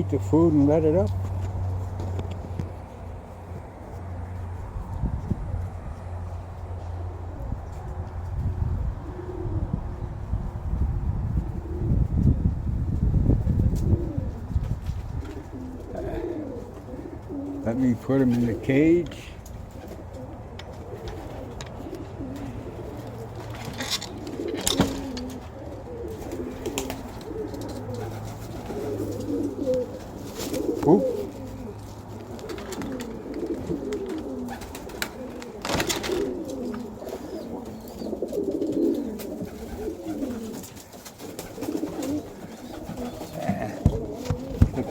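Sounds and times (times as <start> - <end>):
pigeons cooing: 0.0 - 44.9.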